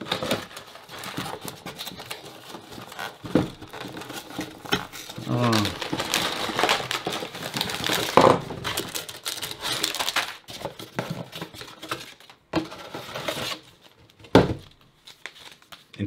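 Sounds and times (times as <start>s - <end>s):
cardboard box being unpacked: 0.0s - 15.7s
clicks rustles and crinkles: 0.0s - 15.9s.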